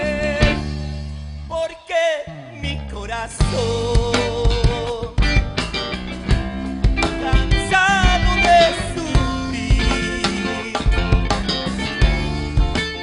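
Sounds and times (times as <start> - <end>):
live rock band playing: 0.0 - 1.6, 2.2 - 13.0.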